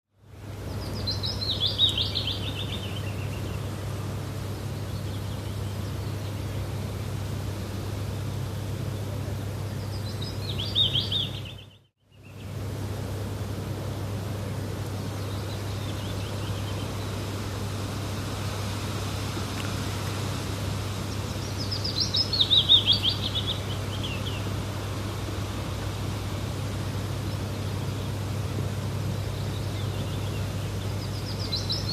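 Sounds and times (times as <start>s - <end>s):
low hum and hiss: 0.2s - 31.9s
low background rumble: 0.3s - 31.9s
songbird singing: 0.4s - 12.7s, 13.7s - 31.9s.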